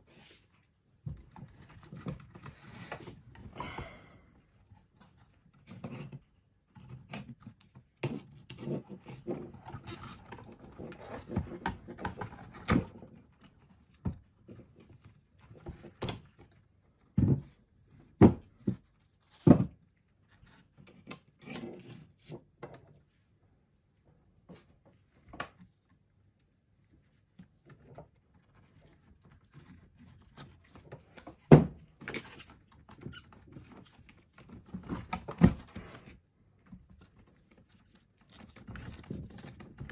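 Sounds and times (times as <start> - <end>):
rustling and scraping: 0.0 - 39.9.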